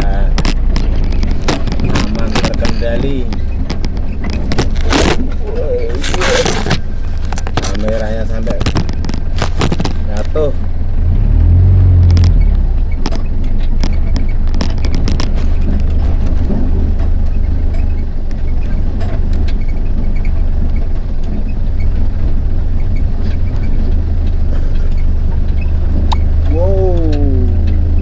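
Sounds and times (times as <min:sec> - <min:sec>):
knocks and rattles from bumps: 0:00.0 - 0:10.6, 0:12.0 - 0:28.0
vehicle engine rumbling: 0:00.0 - 0:28.0.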